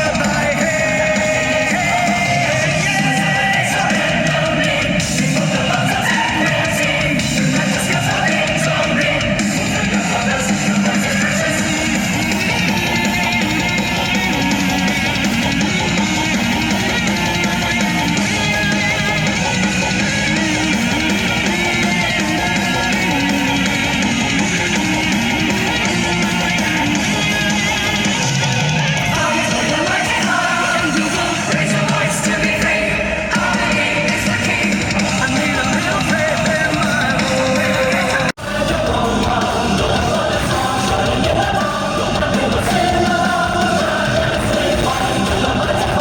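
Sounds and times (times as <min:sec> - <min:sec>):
rock music from car speakers: 0:00.0 - 0:46.0.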